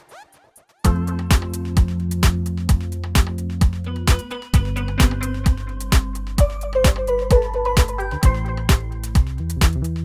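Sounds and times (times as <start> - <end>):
electronic kick drum: 0.8 - 10.0
synthesizer bass chord: 0.9 - 10.0.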